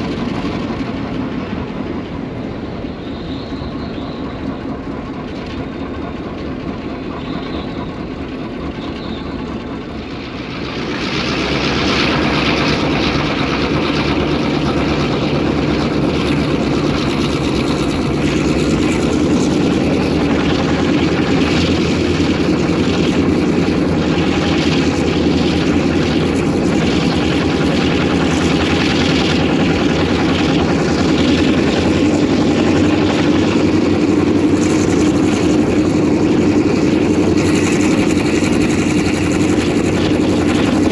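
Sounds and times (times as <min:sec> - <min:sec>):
diesel locomotive engine: 0:00.0 - 0:40.9.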